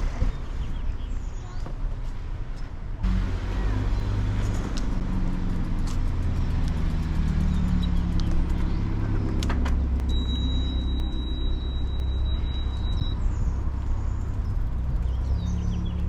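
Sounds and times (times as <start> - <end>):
car engine running: 3.0 - 16.0.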